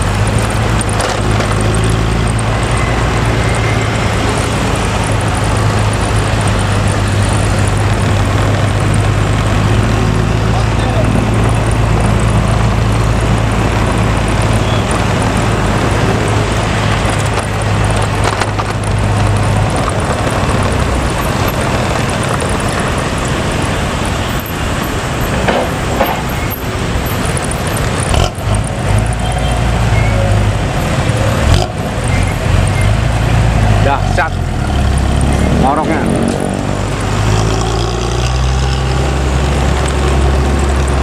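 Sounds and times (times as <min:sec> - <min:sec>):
bus engine growling exhaust: 0:00.0 - 0:41.0
road traffic: 0:00.0 - 0:41.0.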